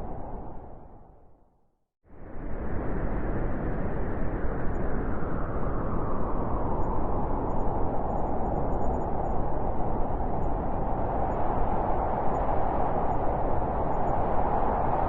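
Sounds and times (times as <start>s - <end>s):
howling blizzard wind: 0.0s - 1.3s, 2.1s - 15.0s.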